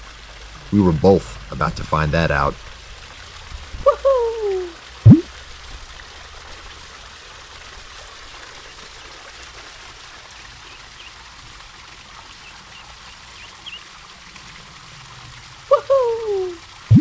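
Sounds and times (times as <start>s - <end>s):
fountain trickling into pond: 0.0s - 17.0s.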